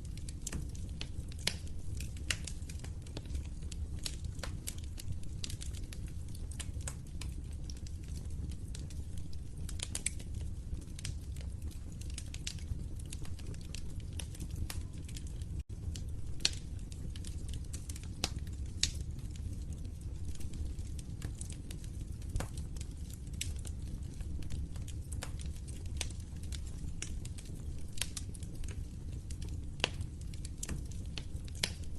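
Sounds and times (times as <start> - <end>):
low rumble of flames: 0.0 - 31.9
wood fire crackling: 0.0 - 31.9.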